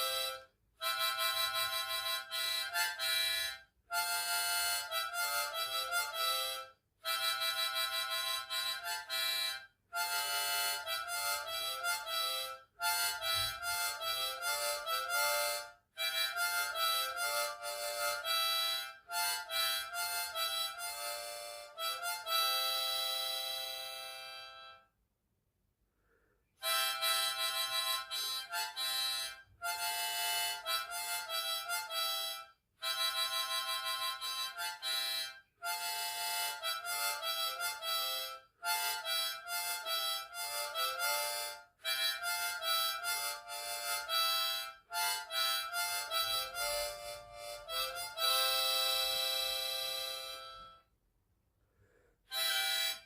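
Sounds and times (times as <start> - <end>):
harmonica playing chords and melody: 0.0 - 25.0, 25.9 - 53.0.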